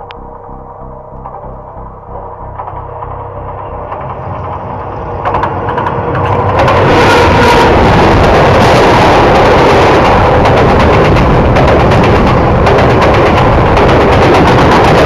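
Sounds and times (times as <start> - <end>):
diesel locomotive engine rumble: 0.0 - 15.0
train passing overhead din: 0.0 - 15.0
wheels clicking on rails: 2.2 - 15.0.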